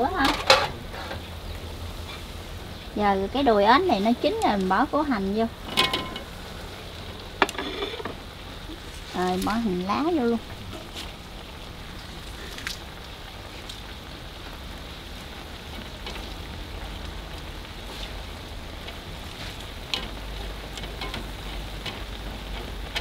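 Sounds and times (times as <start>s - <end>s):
food sizzling in a wok: 0.0s - 23.0s.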